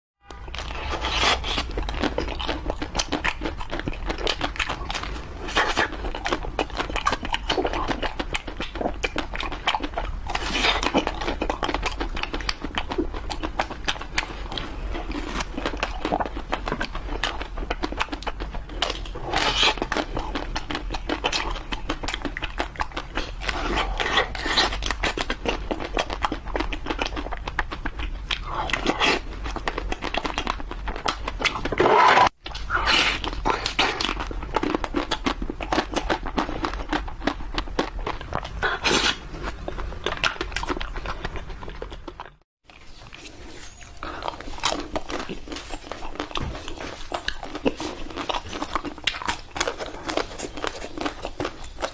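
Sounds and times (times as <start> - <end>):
person crunching ice cream: 0.3 - 51.9.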